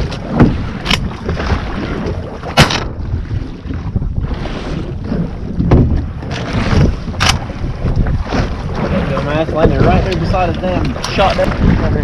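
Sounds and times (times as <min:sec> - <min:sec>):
water slapping against boat: 0:00.0 - 0:12.0
wind buffeting microphone: 0:00.0 - 0:12.0.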